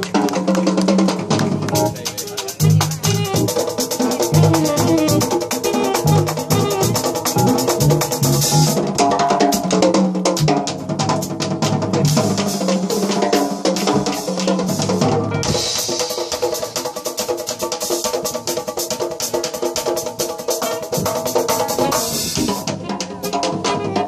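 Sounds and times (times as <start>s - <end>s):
drum kit: 0.0s - 24.0s
hand drums driving rhythm: 0.0s - 24.0s.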